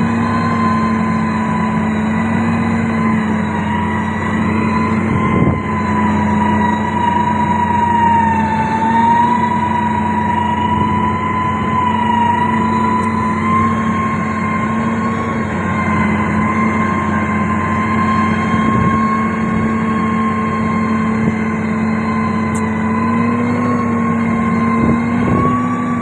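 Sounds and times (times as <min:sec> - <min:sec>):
grader diesel engine under load: 0:00.0 - 0:26.0
high wavering whine: 0:00.0 - 0:26.0.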